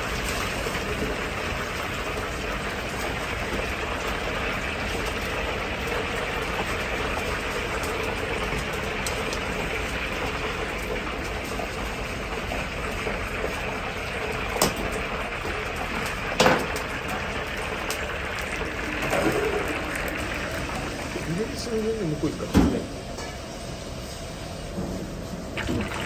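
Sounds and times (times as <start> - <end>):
wok range burner roaring: 0.0 - 26.0.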